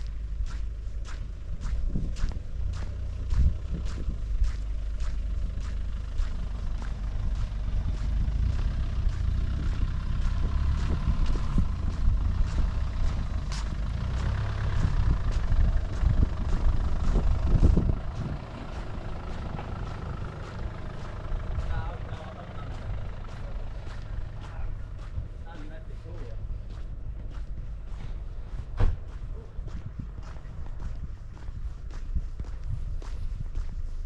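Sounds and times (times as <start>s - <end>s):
footsteps walking: 0.0s - 34.0s
large vehicle engine rumbling: 0.0s - 34.0s.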